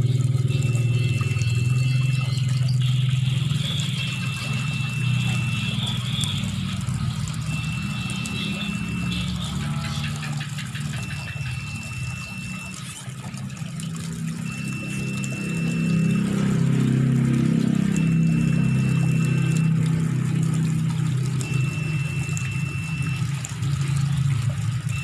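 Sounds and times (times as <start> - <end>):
engine humming: 0.0 - 25.0
tap water pouring into tub: 0.0 - 25.0.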